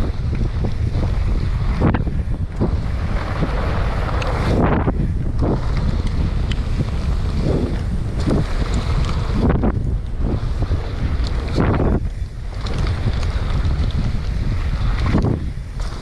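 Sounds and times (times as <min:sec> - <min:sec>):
bike knocks and rattles: 0:00.0 - 0:16.0
tyre noise: 0:00.0 - 0:16.0
wind buffeting microphone: 0:00.0 - 0:16.0.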